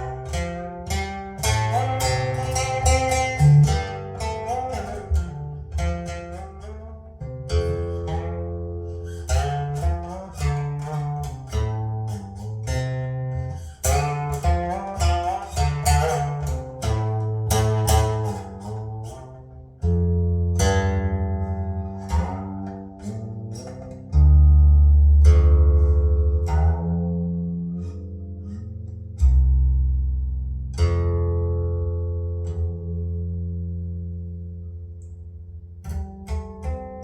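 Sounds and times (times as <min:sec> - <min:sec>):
plucked guitar music: 0:00.0 - 0:37.0.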